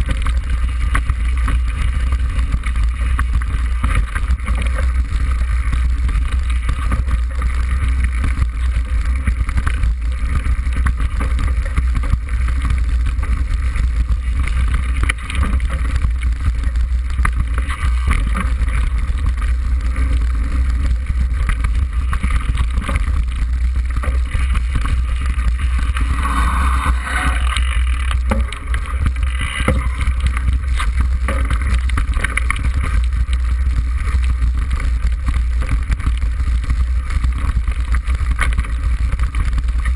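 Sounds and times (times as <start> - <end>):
bike rattles and knocks: 0.0 - 39.9
wind rumble on microphone: 0.0 - 39.9.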